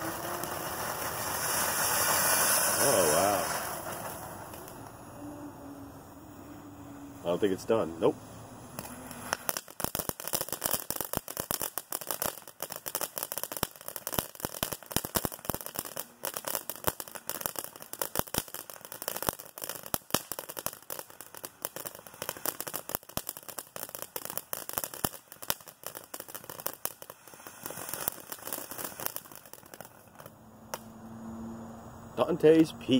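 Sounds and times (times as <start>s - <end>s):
firework fountain crackling: 0.0s - 30.9s.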